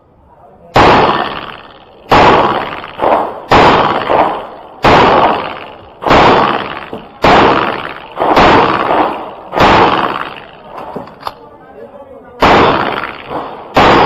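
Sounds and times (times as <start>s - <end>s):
pistol shots echoing: 0.8s - 11.3s, 12.4s - 14.0s.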